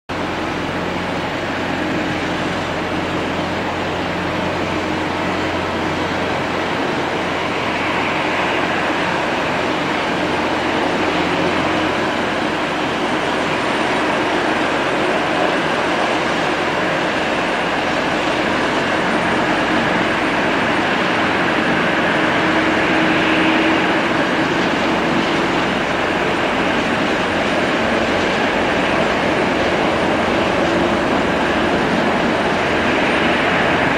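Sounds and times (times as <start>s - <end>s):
distant jet engines roaring: 0.1s - 33.9s.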